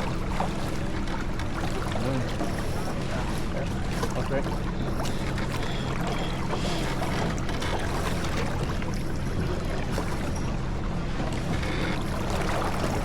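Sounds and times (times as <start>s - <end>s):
water rushing: 0.0s - 13.0s
wind: 0.0s - 13.0s.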